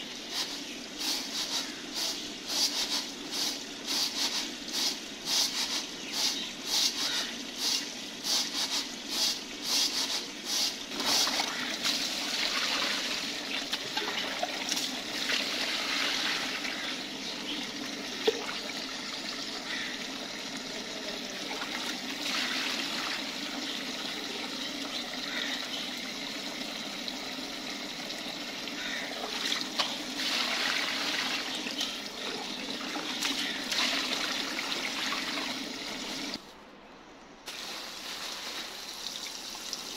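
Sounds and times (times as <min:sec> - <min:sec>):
water trickling and splashing: 0:00.0 - 0:36.4, 0:37.5 - 0:39.9.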